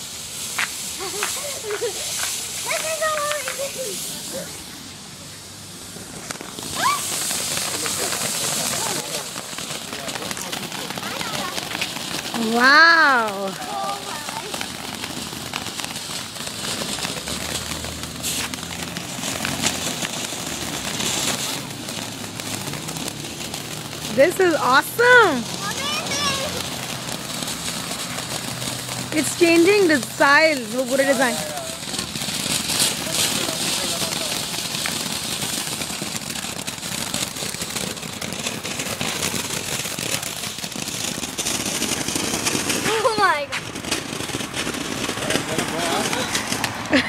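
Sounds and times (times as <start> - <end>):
firework crackles: 0.0 - 47.0
firework sparks hissing: 0.0 - 47.0.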